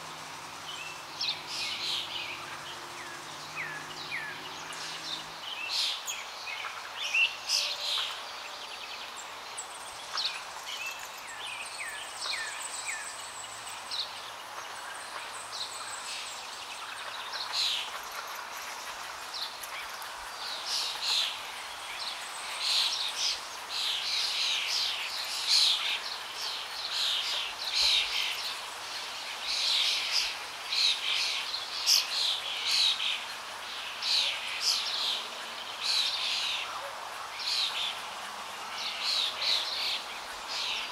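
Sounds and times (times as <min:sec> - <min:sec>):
birds chirping: 0:00.0 - 0:40.9
steady background hiss: 0:00.0 - 0:40.9.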